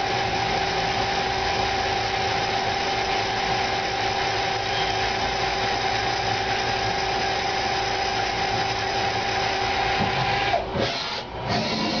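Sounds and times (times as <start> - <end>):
lathe high whine: 0.0 - 12.0
machine noise: 0.0 - 12.0.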